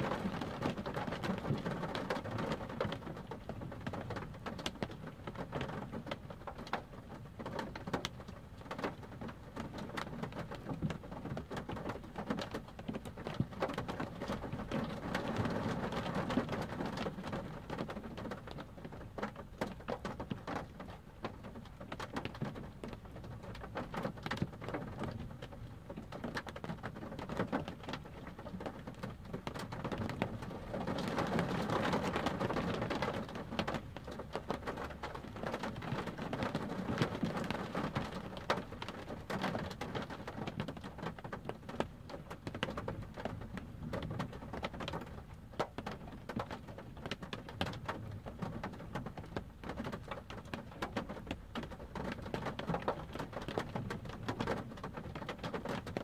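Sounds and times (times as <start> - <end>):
rain pattering on car roof: 0.0 - 56.0.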